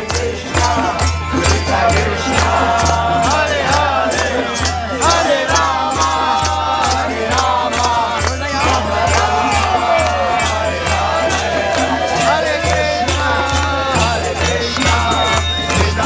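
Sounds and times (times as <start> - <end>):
drum beat: 0.0 - 16.0
hand cymbals: 0.0 - 16.0
person chanting a melody: 0.0 - 16.0.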